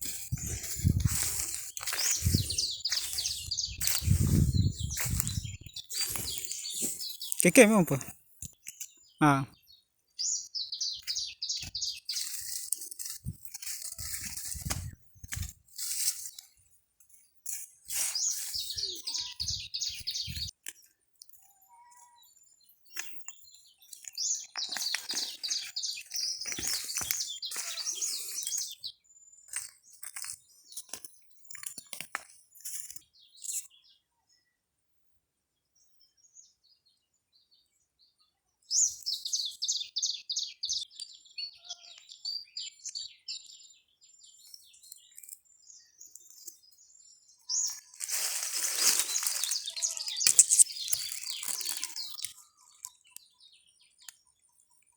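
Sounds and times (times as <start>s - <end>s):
small birds chirping: 0.0s - 34.6s, 35.6s - 54.9s.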